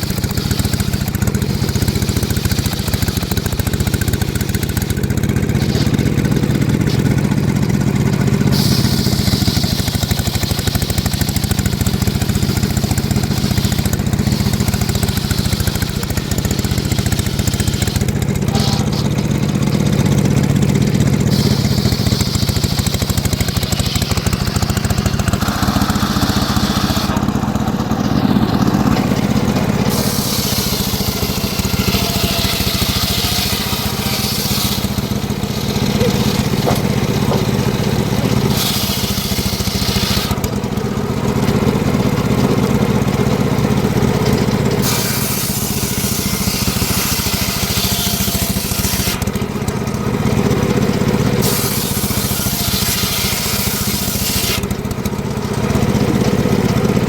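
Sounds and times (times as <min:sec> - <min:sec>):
saw blade ripping through wood: 0:00.0 - 0:40.7, 0:44.8 - 0:50.0, 0:51.3 - 0:55.2
sawmill engine running: 0:00.0 - 0:57.0.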